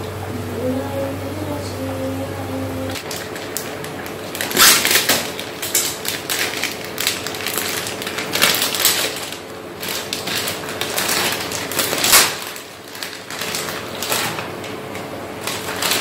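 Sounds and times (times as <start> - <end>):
plastic bag crinkling: 2.9 - 16.0.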